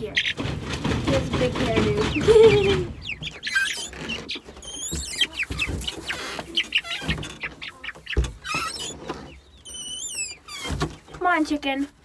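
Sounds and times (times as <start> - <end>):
chickens clucking and chirping: 0.0 - 12.0.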